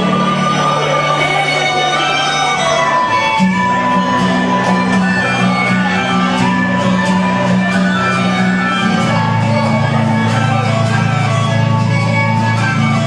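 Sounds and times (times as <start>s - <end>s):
cumbia music: 0.0s - 13.0s.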